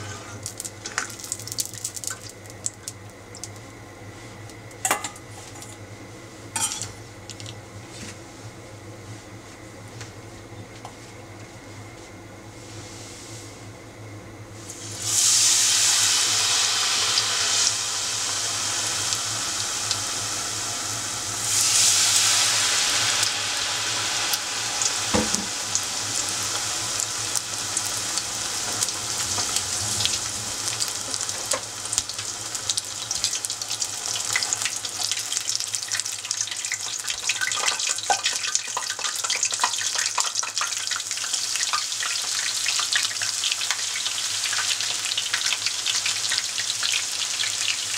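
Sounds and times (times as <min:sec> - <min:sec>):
batter frying in hot oil: 0:00.0 - 0:05.8, 0:06.4 - 0:08.0, 0:14.5 - 0:47.9.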